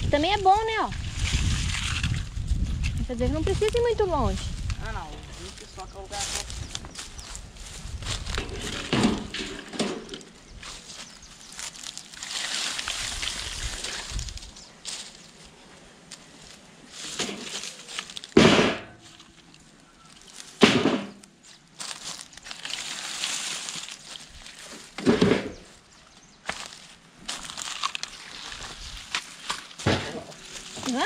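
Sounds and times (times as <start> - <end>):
leaf litter crunching and rustling: 0.0 - 18.4, 19.0 - 25.0, 25.6 - 31.0
dry wood cracking: 1.2 - 15.2, 17.0 - 25.8, 26.4 - 31.0.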